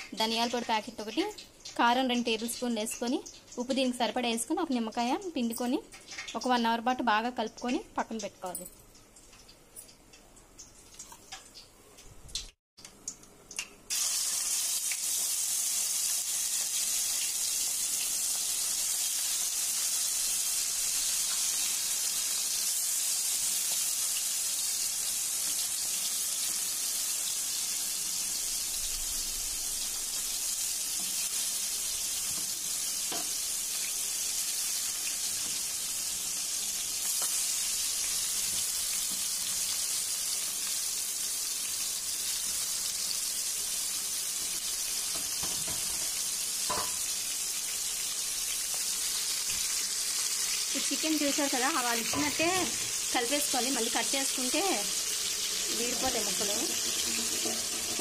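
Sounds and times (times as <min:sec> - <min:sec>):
chicken sizzling in hot oil: 0:00.0 - 0:08.3, 0:13.6 - 0:58.0.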